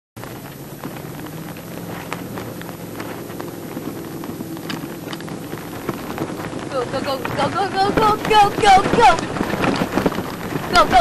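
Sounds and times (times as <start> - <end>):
pickup truck engine running: 0.2 - 11.0.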